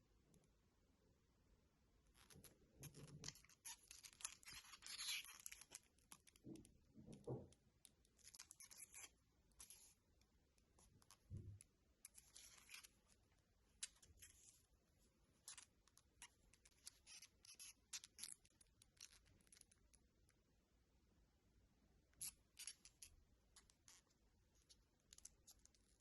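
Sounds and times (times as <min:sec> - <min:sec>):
small clicks and rustles: 0:02.0 - 0:20.4, 0:22.1 - 0:26.0.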